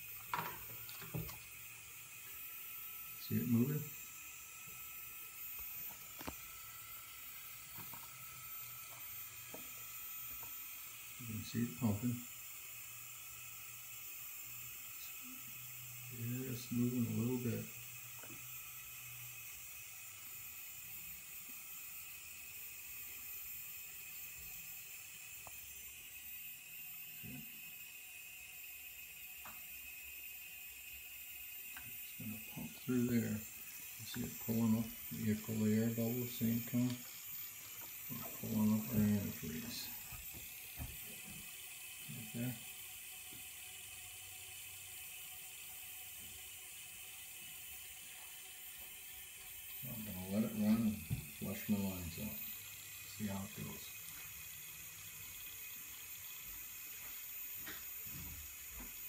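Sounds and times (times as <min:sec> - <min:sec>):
pump humming and hissing: 0:00.0 - 0:59.0.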